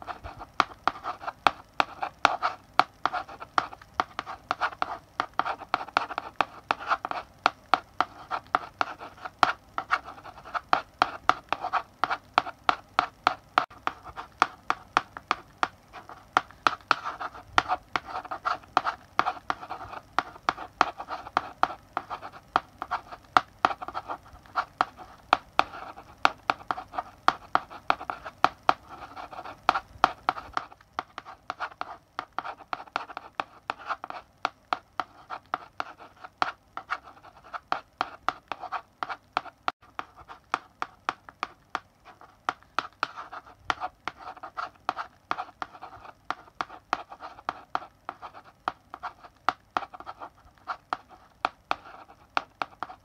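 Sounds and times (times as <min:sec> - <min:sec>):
chalk tapping and scratching: 0:00.0 - 0:53.0.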